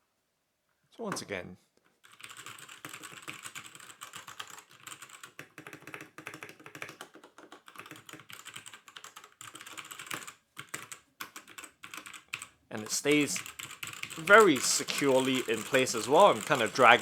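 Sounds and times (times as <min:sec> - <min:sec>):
rapid typing on mechanical keyboard: 0:02.0 - 0:17.0.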